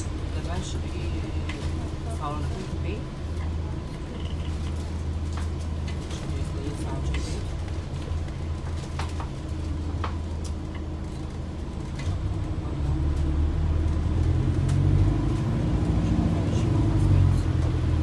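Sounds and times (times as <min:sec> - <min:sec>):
bus cabin low rumble: 0:00.0 - 0:18.0.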